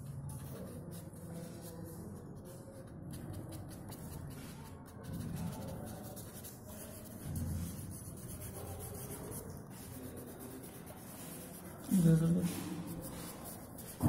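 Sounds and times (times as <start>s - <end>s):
fingers rubbing on paper: 0.0s - 14.0s.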